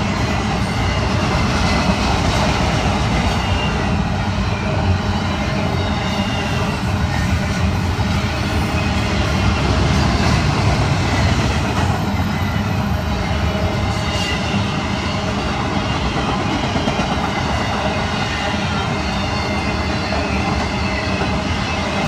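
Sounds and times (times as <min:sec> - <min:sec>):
steel wheels on rails: 0:00.0 - 0:22.0.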